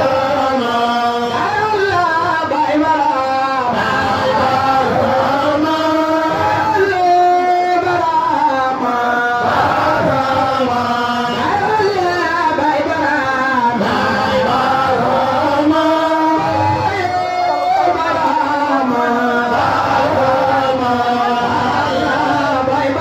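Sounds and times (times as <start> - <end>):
devotional chanting voice: 0.0 - 23.0.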